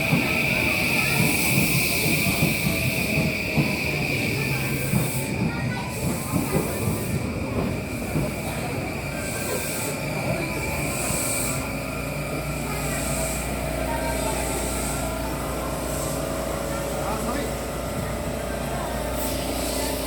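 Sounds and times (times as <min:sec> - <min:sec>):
train wheel squeal: 0:00.0 - 0:17.5
train rumble: 0:00.0 - 0:20.0.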